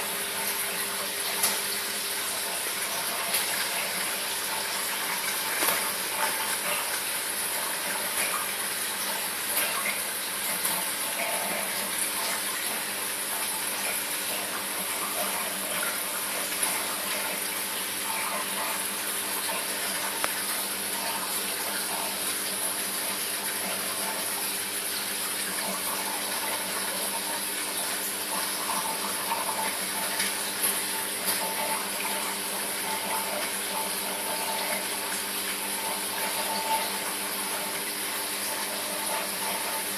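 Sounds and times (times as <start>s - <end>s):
aquarium water splashing and trickling: 0.0s - 39.9s.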